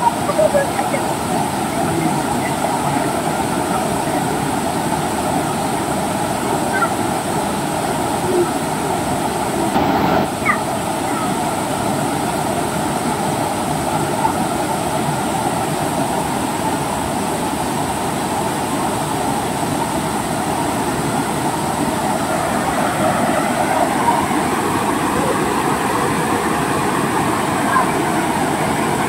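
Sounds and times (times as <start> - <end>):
river rushing over rapids: 0.0 - 29.0.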